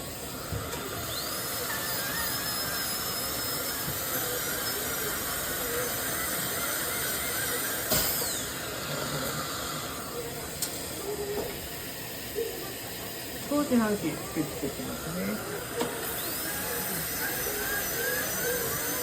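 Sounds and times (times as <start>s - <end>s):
dental drill whine: 0.0s - 19.0s.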